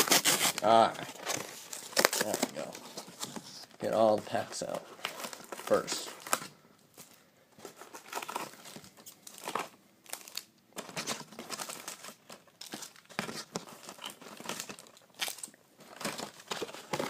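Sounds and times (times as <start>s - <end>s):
card packs crinkling and rustling: 0.0s - 17.0s.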